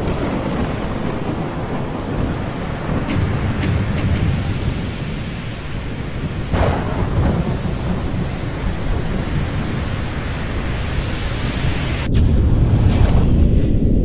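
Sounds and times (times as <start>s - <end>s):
rain: 0.0s - 14.0s
thunder crash: 0.0s - 14.0s
thunder rumbling: 0.0s - 14.0s.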